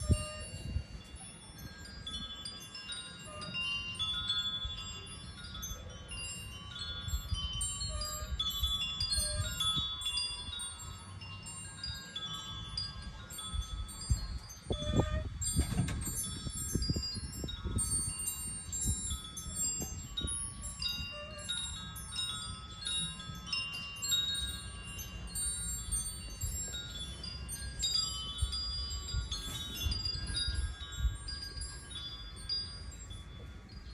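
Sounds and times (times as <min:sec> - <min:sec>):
wind chimes ringing: 0:00.0 - 0:33.9
low wind rumble: 0:06.2 - 0:33.9.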